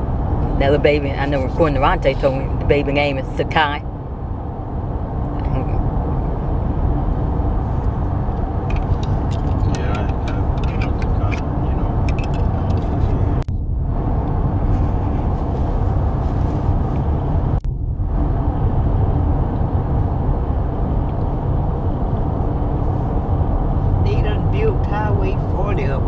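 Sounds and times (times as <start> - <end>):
engine and road rumble in cab: 0.0 - 26.0.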